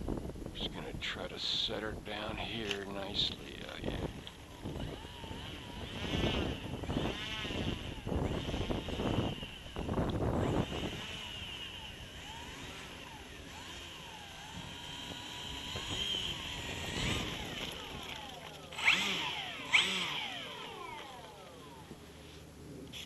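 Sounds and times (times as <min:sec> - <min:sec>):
wind buffeting microphone: 0:00.0 - 0:22.1
model plane motor whining: 0:02.4 - 0:23.0.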